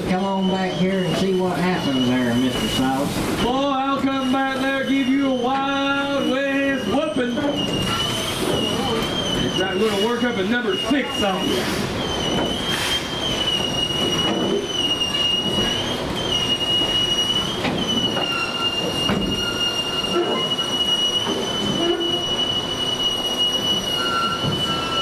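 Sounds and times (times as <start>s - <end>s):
train cars rumbling and clattering: 0.0s - 25.0s
train wheels squealing on rails: 0.0s - 25.0s.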